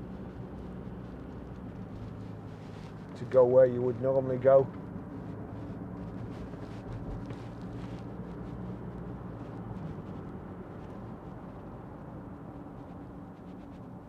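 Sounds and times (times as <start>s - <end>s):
low engine hum: 0.0s - 14.0s
road and tyre noise: 0.0s - 14.0s.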